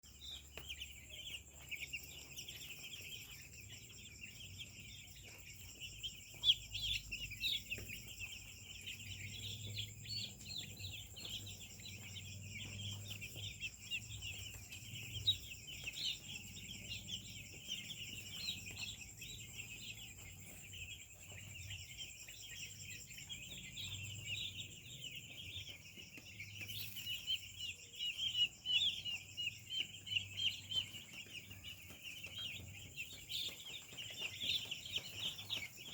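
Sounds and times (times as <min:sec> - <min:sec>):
poultry peeping and clucking: 0:00.0 - 0:35.9.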